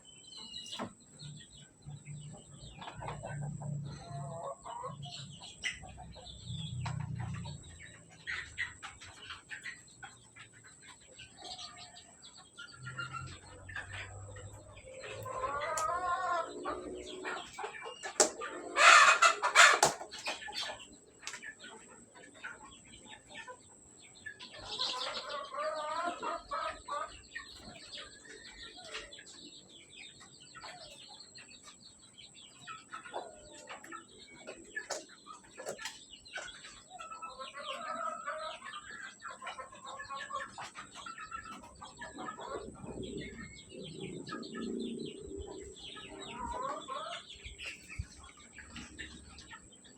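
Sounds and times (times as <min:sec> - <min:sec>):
chickens clucking and calling: 0:00.0 - 0:49.9.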